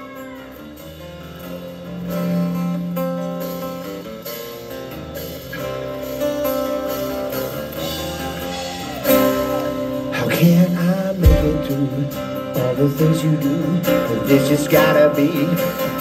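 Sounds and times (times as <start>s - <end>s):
live band playing with guitars: 0.0s - 16.0s.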